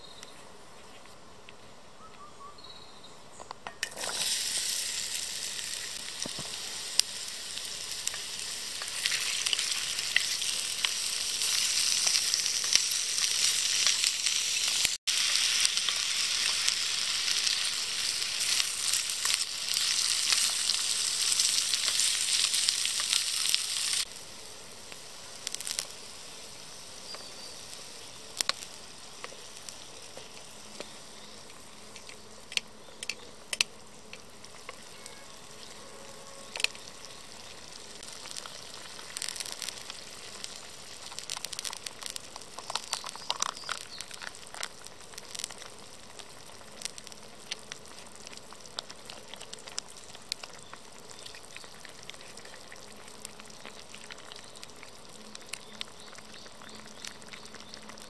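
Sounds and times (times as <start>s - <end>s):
food sizzling in oil: 3.7s - 32.6s, 33.4s - 58.0s.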